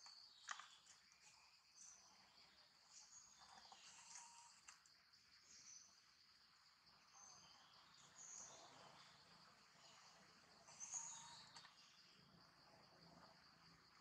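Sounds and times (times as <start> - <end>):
high insect drone: 1.7 - 14.0.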